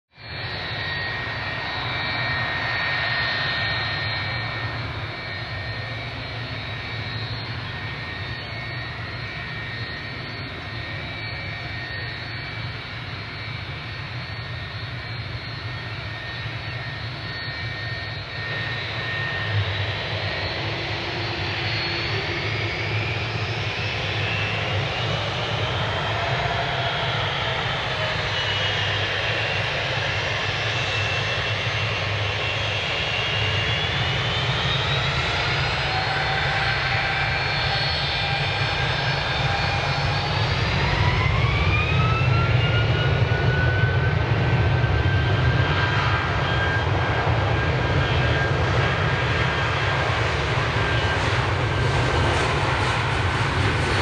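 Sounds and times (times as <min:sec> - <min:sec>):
jet engine noise: 0:00.1 - 0:54.0
high engine whine: 0:00.2 - 0:54.0.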